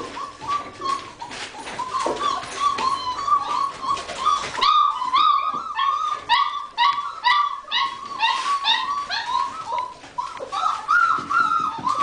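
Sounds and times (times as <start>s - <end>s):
puppies whimpering and yipping: 0.0s - 12.0s.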